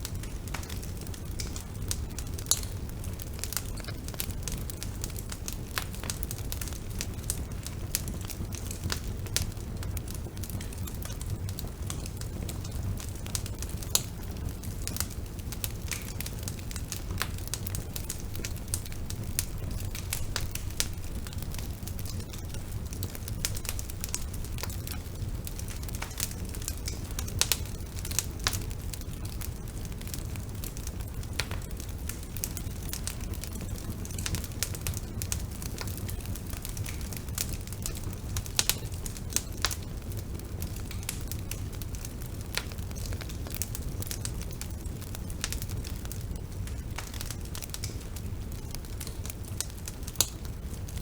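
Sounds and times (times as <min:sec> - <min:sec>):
bonfire crackling: 0:00.0 - 0:51.0.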